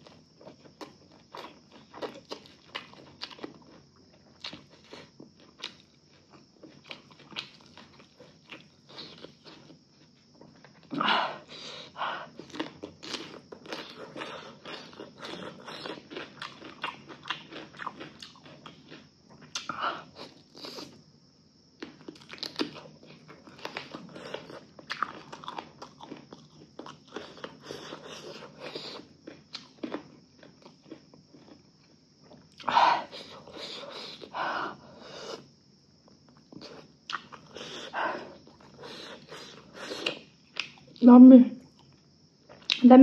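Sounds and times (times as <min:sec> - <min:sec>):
person chewing food: 0:00.0 - 0:21.0, 0:21.6 - 0:41.0, 0:41.7 - 0:42.8.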